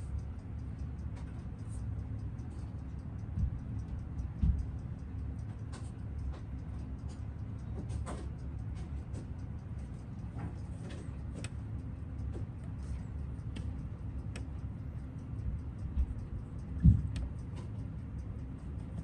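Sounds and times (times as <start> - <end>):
faint fast watch ticking: 0.0 - 19.0
sharp clicks: 0.0 - 19.0
steady low hum: 0.0 - 19.0.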